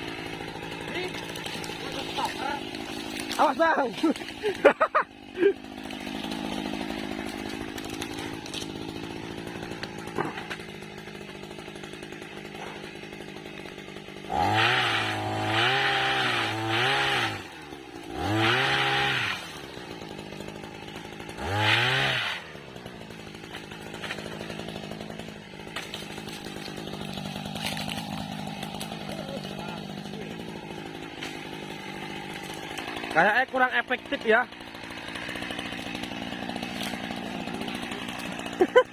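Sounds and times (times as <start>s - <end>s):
small engine revving: 0.0s - 38.9s.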